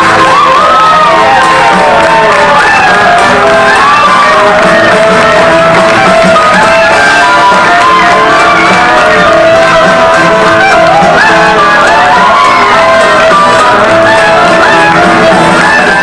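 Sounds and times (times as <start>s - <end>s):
loud music with guitar: 0.0s - 16.0s.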